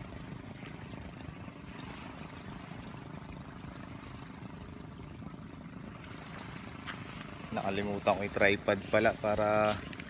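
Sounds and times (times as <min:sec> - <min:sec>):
small waves lapping: 0:00.0 - 0:10.0.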